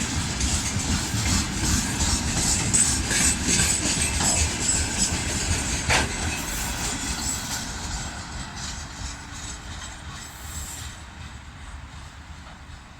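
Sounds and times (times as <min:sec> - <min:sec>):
train wheels clattering on rails: 0:00.0 - 0:12.9.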